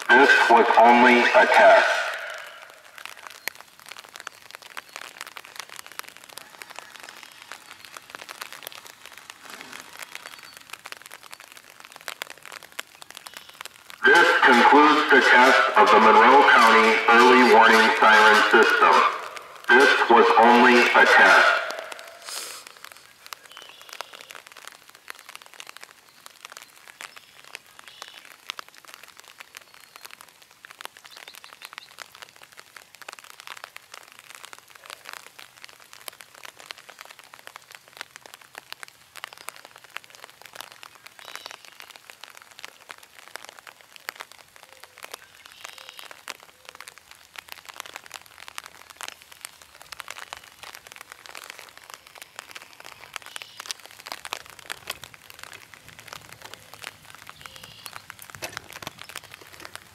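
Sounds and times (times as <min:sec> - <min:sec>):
rain pattering on an umbrella: 0:00.0 - 0:59.9.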